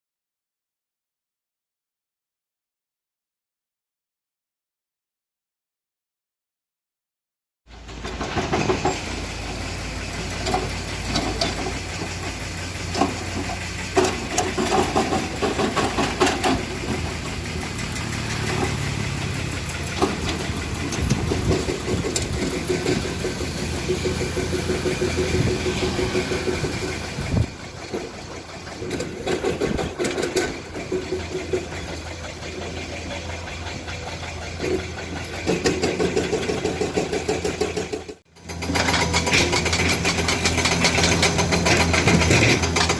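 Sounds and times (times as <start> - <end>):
excavator diesel engine: 7.7 - 42.9.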